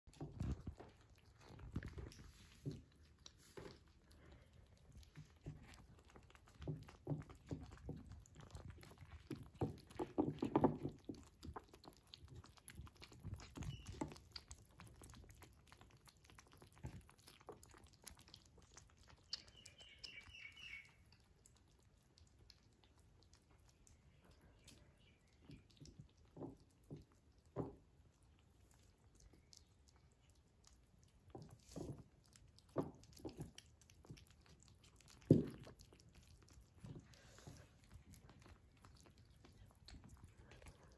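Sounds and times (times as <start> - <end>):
kittens chewing and licking: 0.0 - 40.9.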